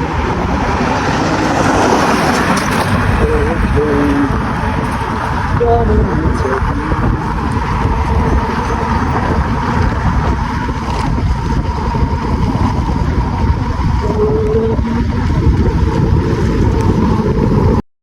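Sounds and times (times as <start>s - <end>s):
steady tone: 0.0s - 17.8s
vehicle engine running: 0.0s - 17.8s
wind rushing over microphone: 0.0s - 17.8s.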